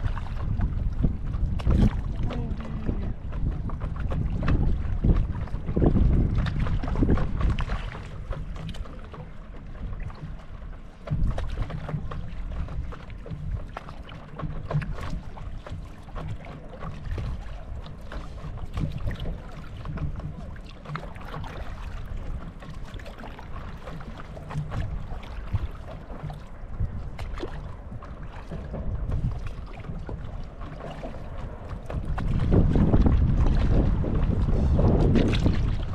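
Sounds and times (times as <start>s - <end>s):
wind buffeting microphone: 0.0s - 13.8s, 14.4s - 35.9s
lake water lapping: 0.0s - 35.9s.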